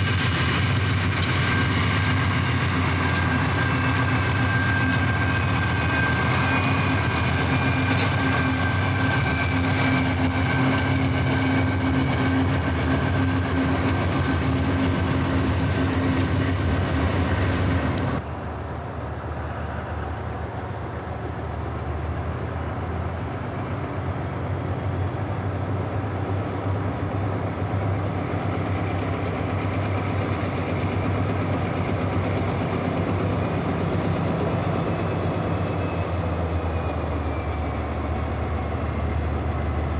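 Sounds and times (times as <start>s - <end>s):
distant diesel locomotive engine: 0.0s - 39.9s
freight train rumbling past: 0.0s - 39.9s.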